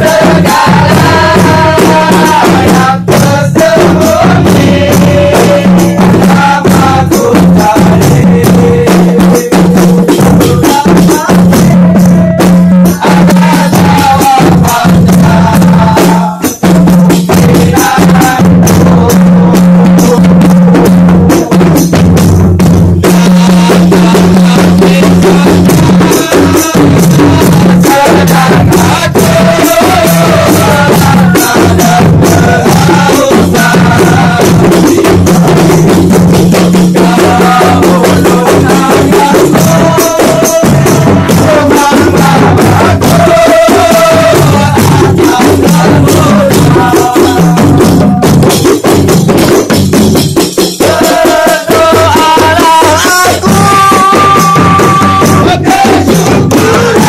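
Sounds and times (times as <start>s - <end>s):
people singing: 0.0s - 22.2s, 23.0s - 49.8s, 50.4s - 57.0s
hand-held frame drums beating: 0.0s - 57.0s.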